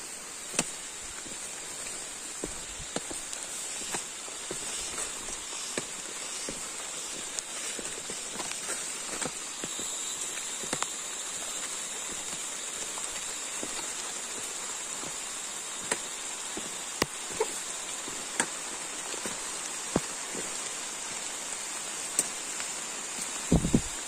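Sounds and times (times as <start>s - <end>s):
footsteps on trail: 0.0s - 24.0s
steady hiss: 0.0s - 24.0s.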